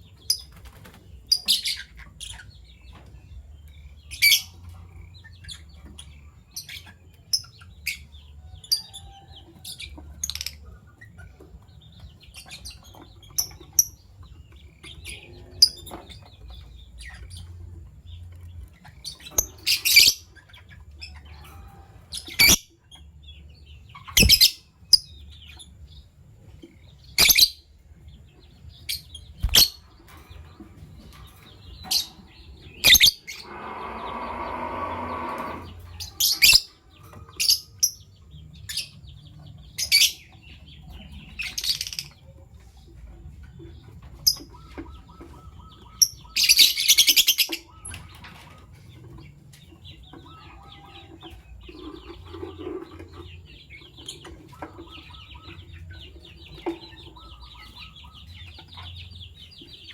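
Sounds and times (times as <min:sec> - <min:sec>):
lovebirds chirping: 0:00.0 - 0:59.9.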